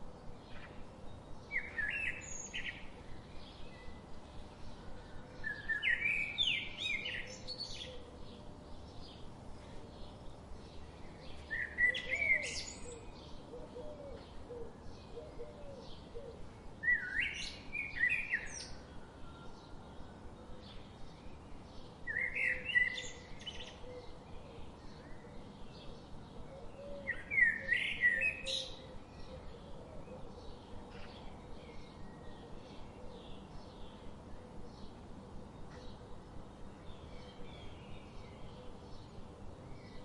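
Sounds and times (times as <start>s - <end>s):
faint bird chirping: 0.0s - 40.0s.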